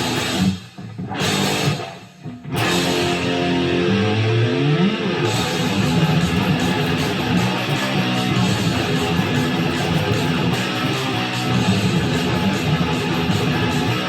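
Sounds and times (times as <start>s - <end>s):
electric guitar metal riff: 0.0s - 14.0s.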